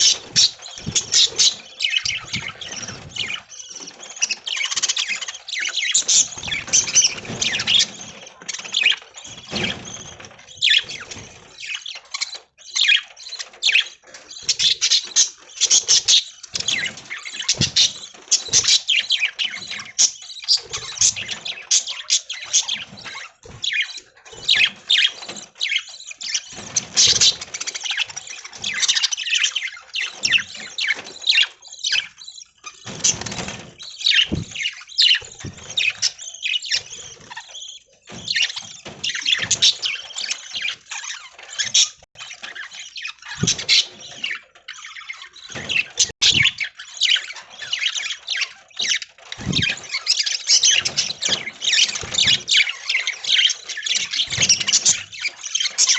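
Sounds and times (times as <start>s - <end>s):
budgerigars chattering and chirping: 0.0s - 55.9s.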